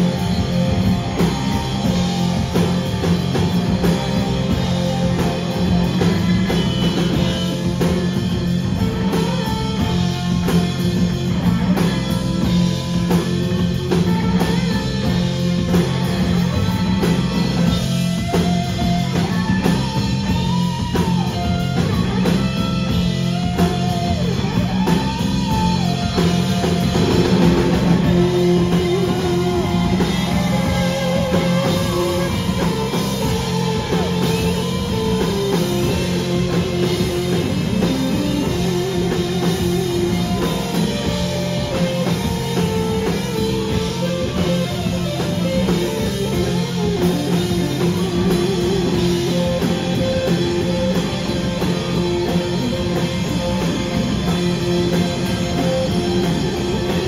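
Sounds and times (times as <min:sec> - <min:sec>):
drum kit: 0:00.0 - 0:57.0
electric guitars bending notes: 0:00.0 - 0:57.0
strummed guitars: 0:00.0 - 0:57.0.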